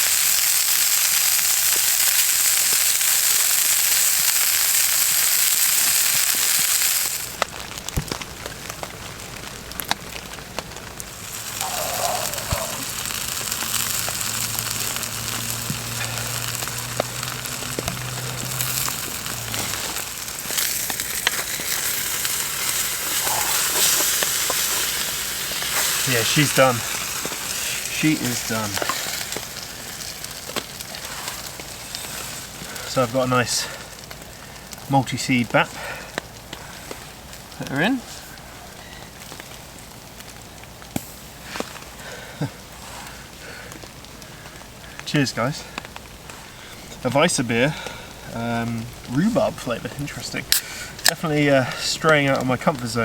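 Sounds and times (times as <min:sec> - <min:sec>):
food sizzling on a plate: 0:00.0 - 0:53.0
pops and crackles: 0:00.0 - 0:53.0.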